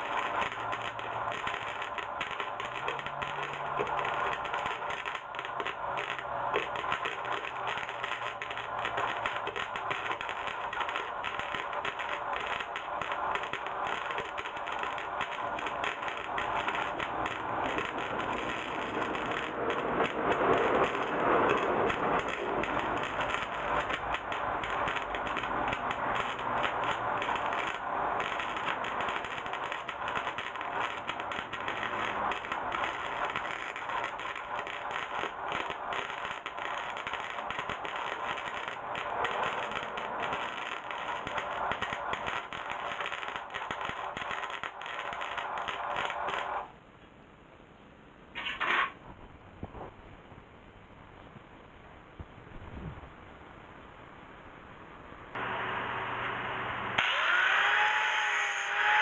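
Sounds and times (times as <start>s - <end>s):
welding arc crackling: 0.0s - 46.7s, 55.4s - 59.0s.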